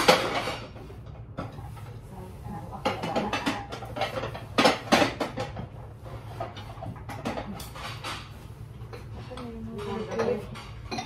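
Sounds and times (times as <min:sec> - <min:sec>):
plates clattering and clinking: 0:00.0 - 0:02.0, 0:02.6 - 0:11.0.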